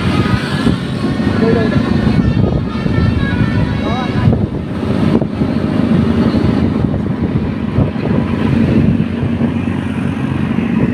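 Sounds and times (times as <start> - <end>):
vehicle rumble and road noise: 0.0 - 10.9
wind buffeting microphone: 0.0 - 10.9.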